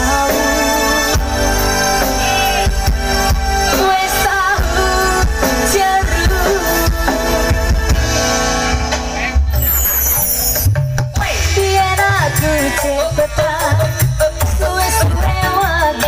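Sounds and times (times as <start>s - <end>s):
regular drum beat: 0.0s - 16.0s.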